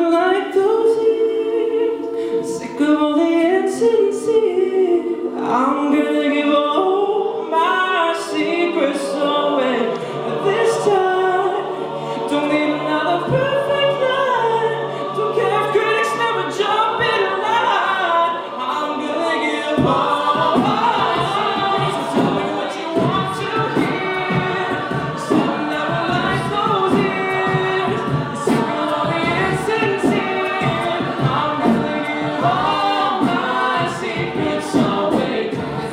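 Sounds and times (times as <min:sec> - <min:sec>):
a cappella group singing: 0:00.0 - 0:35.9.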